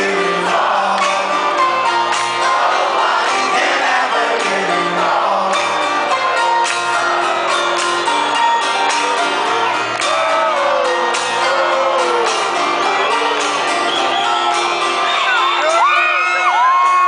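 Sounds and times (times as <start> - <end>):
crowd shouting along: 0.0 - 17.0
live rock band playing: 0.0 - 17.0.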